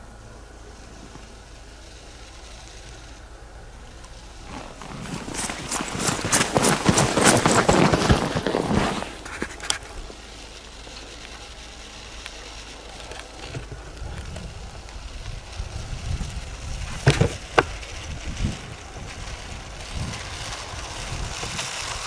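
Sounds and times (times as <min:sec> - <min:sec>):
snow crunching and hissing: 0:00.0 - 0:22.0.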